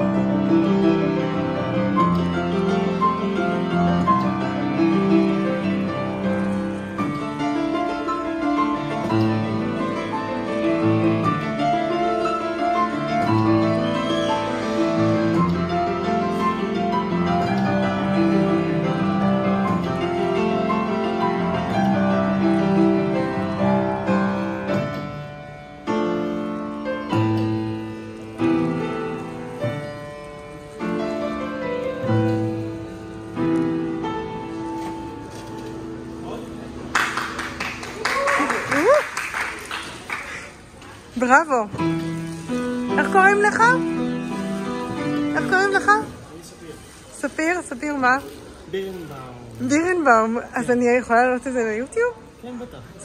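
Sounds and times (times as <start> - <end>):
acoustic piano playing: 0.0 - 53.0.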